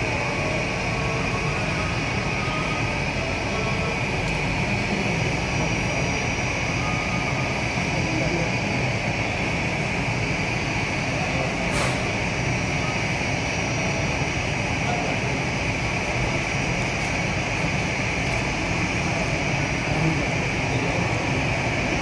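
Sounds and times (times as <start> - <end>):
jet engines idling: 0.0 - 22.0.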